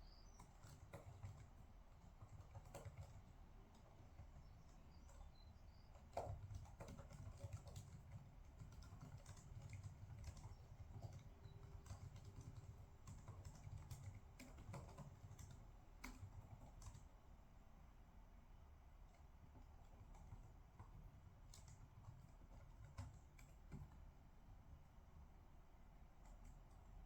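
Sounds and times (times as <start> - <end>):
low room hum: 0.0 - 27.0
typing on computer keyboard: 0.3 - 17.2, 19.1 - 24.1, 26.2 - 27.0.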